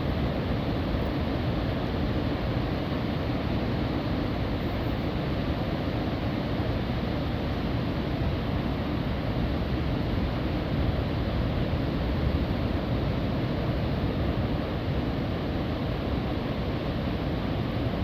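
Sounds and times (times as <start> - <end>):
ocean waves on a beach: 0.0 - 18.0.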